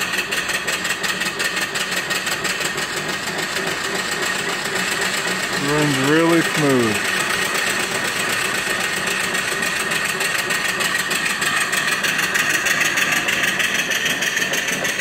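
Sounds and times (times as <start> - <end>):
steam engine beating: 0.0 - 15.0.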